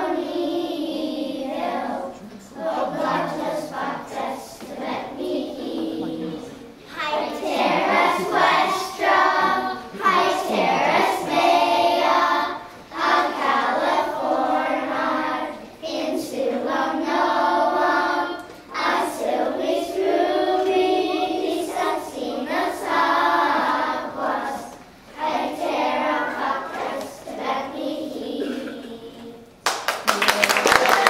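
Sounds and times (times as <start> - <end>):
children's choir singing: 0.0 - 29.6.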